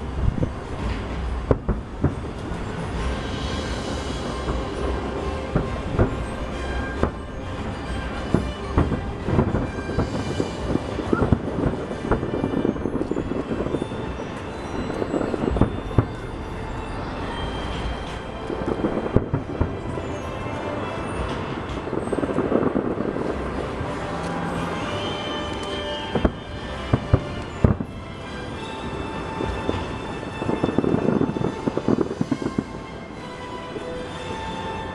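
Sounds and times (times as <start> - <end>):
firework bangs: 0.0 - 33.1
distant fireworks rumble and crackle: 0.0 - 34.9.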